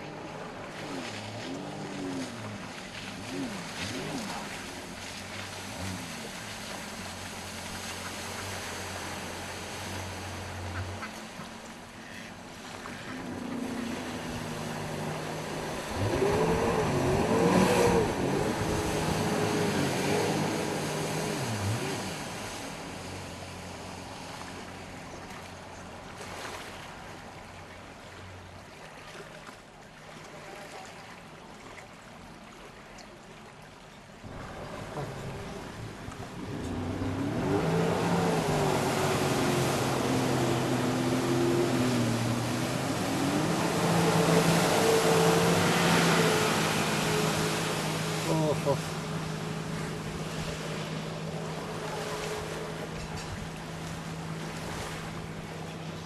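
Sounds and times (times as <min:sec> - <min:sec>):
jet ski engine running: 0:00.0 - 0:28.7, 0:33.7 - 0:56.0.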